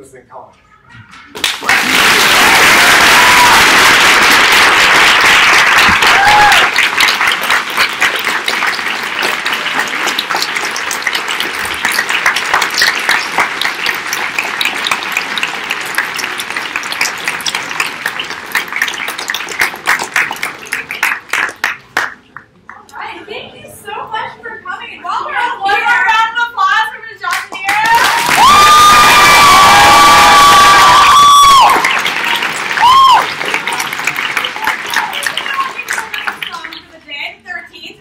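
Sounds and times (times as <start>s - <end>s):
audience applauding: 1.4s - 22.6s, 27.3s - 36.9s.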